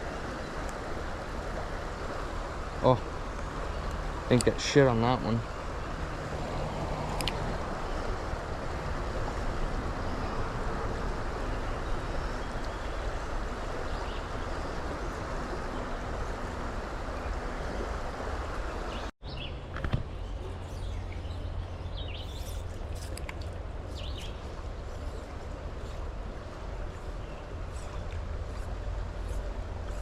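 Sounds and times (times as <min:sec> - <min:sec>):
creek water flowing: 0:00.0 - 0:19.1, 0:20.0 - 0:30.0.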